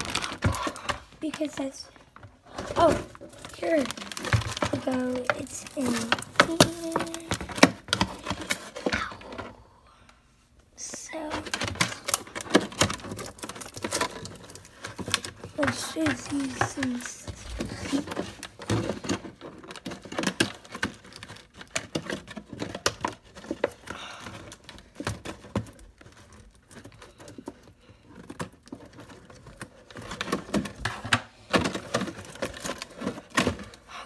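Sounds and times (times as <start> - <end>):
plastic packaging crinkling: 0.0 - 9.4, 11.1 - 34.0.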